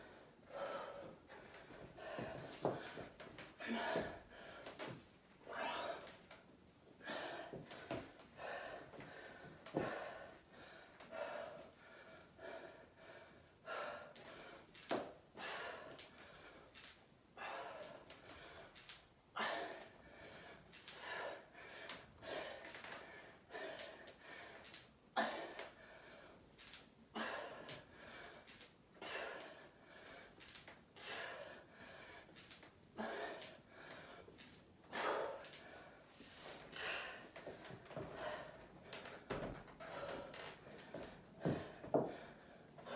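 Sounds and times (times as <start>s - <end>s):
woman breathing hard: 0.0s - 42.9s.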